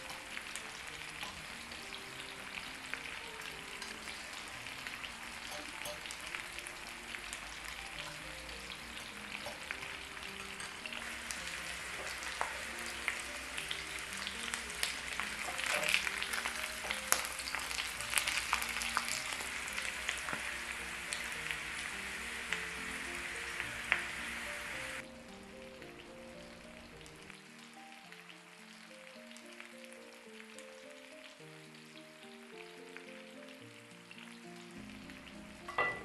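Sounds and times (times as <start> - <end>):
faint background music: 0.0 - 36.0
potatoes sizzling in oil: 0.0 - 36.0.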